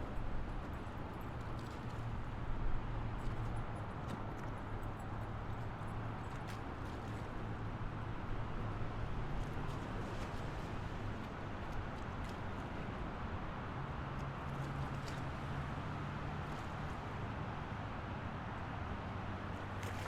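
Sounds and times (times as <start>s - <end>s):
wind and traffic hiss: 0.0s - 20.0s.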